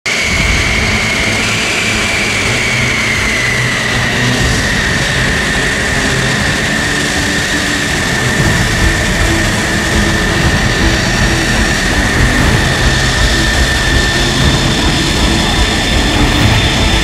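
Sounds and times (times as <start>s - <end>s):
jet engine idling: 0.0s - 17.0s.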